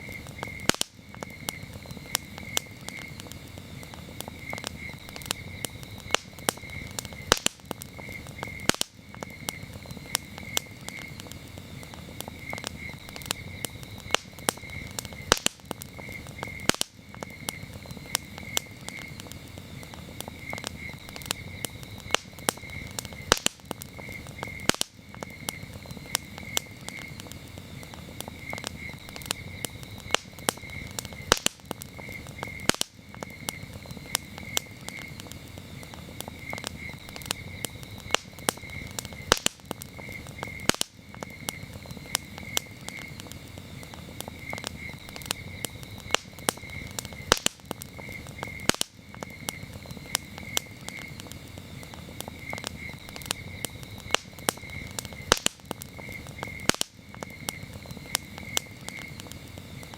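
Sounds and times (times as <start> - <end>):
campfire crackling and popping: 0.0 - 59.9
crickets chirping: 0.0 - 59.9.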